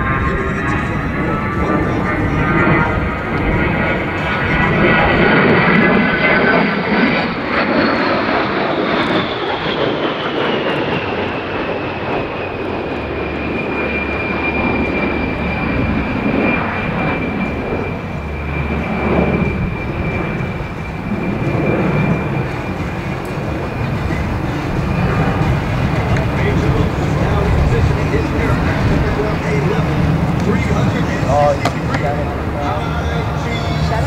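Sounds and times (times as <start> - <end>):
jet engines whining and rumbling: 0.0 - 34.0.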